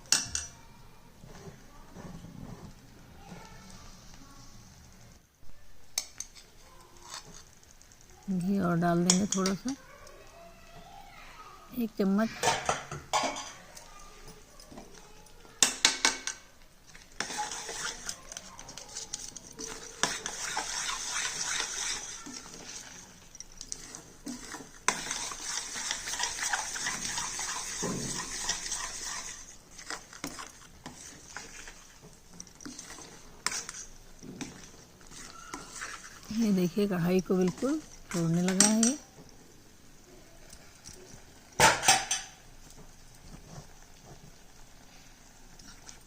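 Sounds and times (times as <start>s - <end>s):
spatula scraping a pan: 1.2s - 4.6s, 6.0s - 7.8s, 12.3s - 39.2s, 40.4s - 46.0s.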